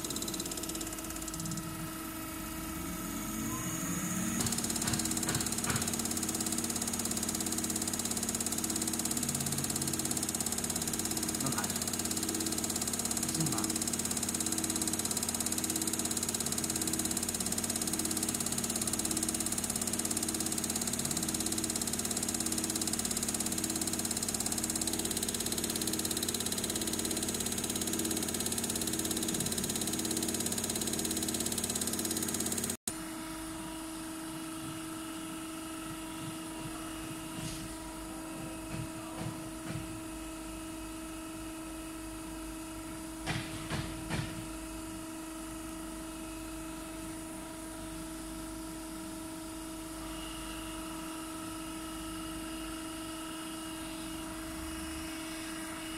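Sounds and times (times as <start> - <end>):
high-pressure pump mechanical hum: 0.0 - 55.9.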